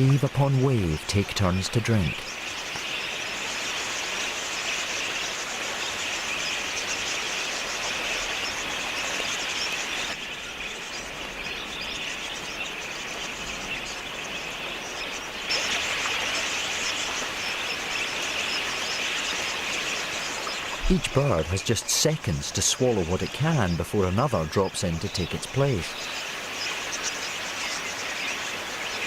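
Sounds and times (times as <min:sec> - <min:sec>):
flock of budgerigars chattering: 0:00.0 - 0:29.0.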